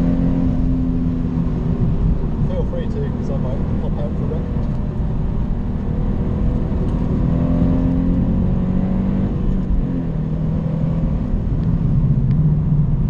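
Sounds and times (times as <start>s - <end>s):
car engine: 0.0s - 13.0s
road rumble: 0.0s - 13.0s.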